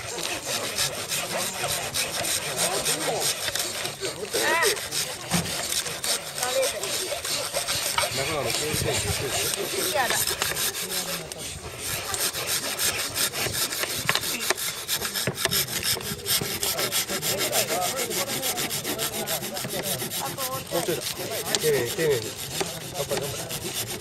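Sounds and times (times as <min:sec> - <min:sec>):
hand saw cutting bamboo: 0:00.0 - 0:24.0.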